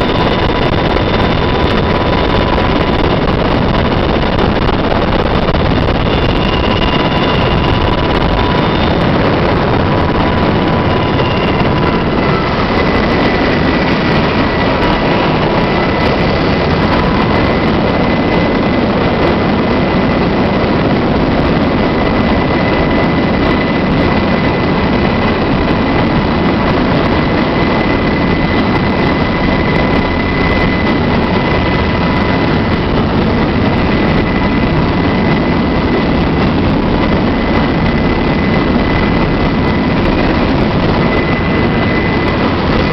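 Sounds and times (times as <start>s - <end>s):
helicopter rotor noise: 0.0s - 42.9s
high turbine whine: 0.0s - 42.9s.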